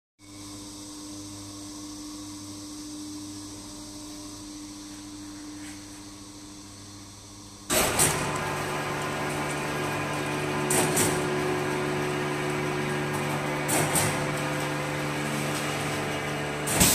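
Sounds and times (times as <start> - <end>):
packing machine humming: 0.3 - 16.9.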